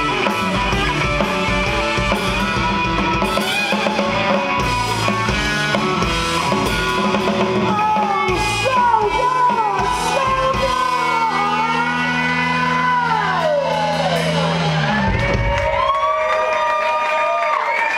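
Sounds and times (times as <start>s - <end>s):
electric guitar: 0.0s - 17.9s.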